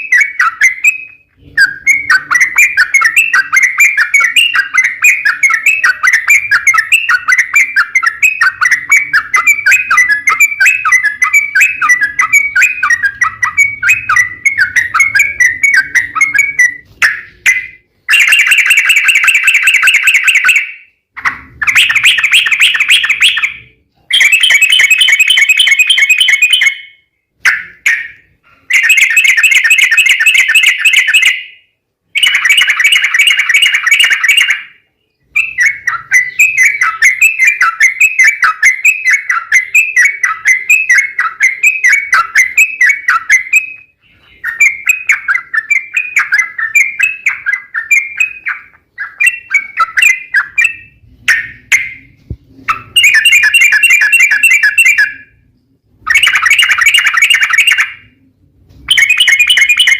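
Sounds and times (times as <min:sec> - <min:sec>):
bird chirping notes: 0:00.0 - 0:59.9.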